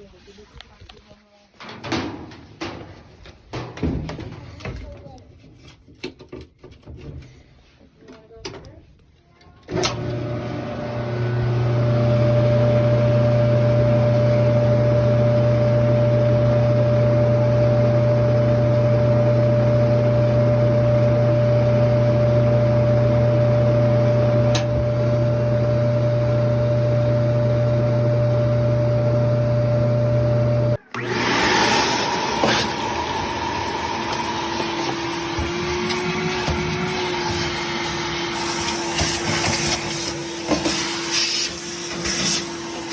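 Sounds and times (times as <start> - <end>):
clothes dryer humming: 0.0 - 5.7, 9.7 - 42.9.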